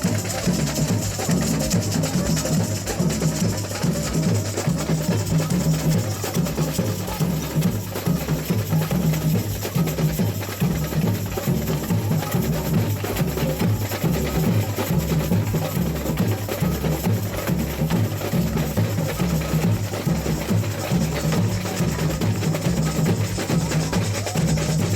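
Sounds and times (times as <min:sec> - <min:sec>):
sharp percussion strikes: 0:00.0 - 0:24.9.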